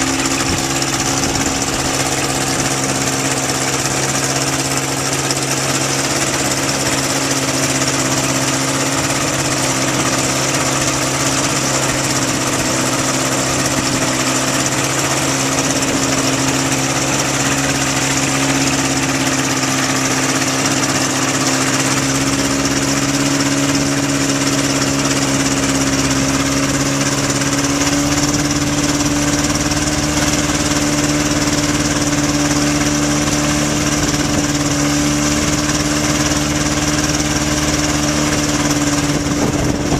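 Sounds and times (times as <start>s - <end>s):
light aircraft engine running: 0.0s - 39.9s.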